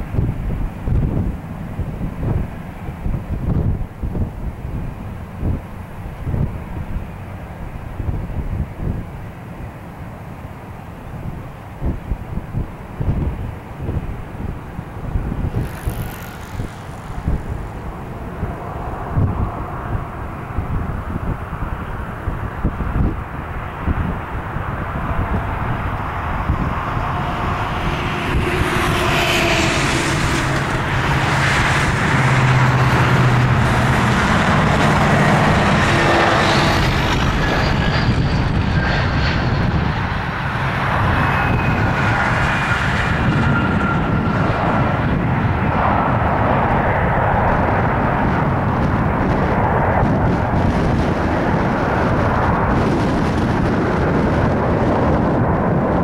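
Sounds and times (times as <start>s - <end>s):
airliner rolling roar: 0.0s - 56.0s
jet engines whining and rumbling: 0.0s - 56.0s.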